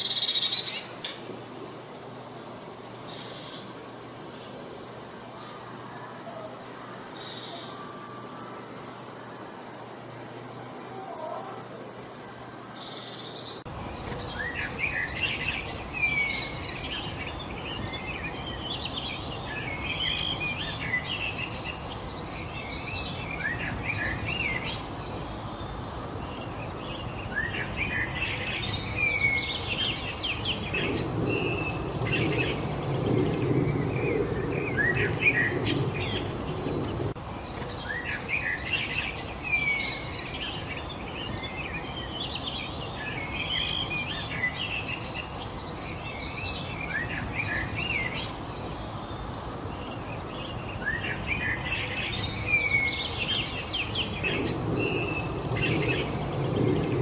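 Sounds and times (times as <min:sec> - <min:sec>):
songbirds chirping and trilling: 0:00.0 - 0:57.0
steady background hiss: 0:00.0 - 0:57.0.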